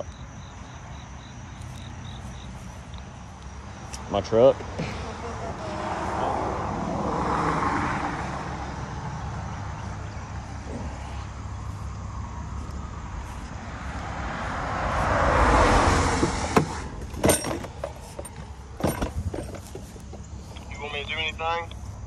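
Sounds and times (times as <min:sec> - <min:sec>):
road traffic: 0:00.0 - 0:22.0
vehicle passing: 0:00.4 - 0:22.0
low engine rumble: 0:01.4 - 0:22.0.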